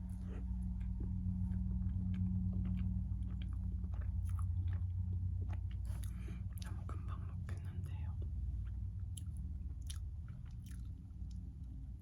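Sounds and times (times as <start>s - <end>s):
steady low hum: 0.0s - 12.0s
chewing with moist mouth clicks: 0.1s - 12.0s.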